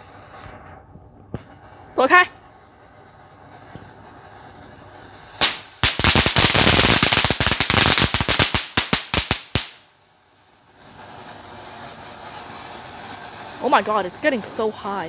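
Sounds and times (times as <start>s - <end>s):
firecrackers cracking: 0.0s - 15.0s.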